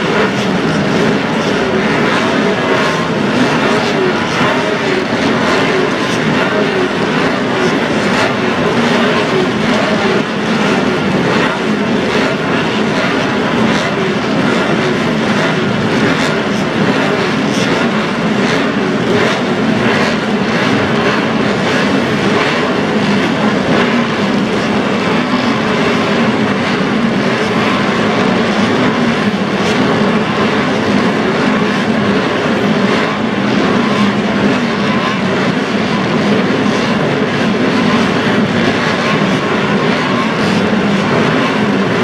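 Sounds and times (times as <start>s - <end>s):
racing motorcycle engines: 0.0s - 42.0s.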